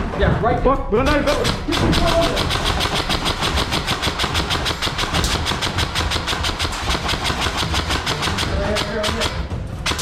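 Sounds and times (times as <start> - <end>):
airsoft rifles firing full auto: 1.4 - 10.0.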